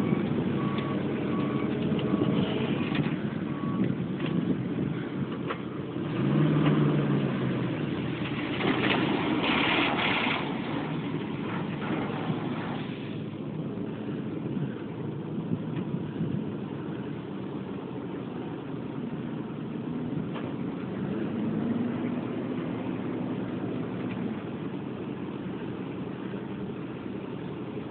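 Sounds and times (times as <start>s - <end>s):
truck engine running: 0.0s - 27.9s.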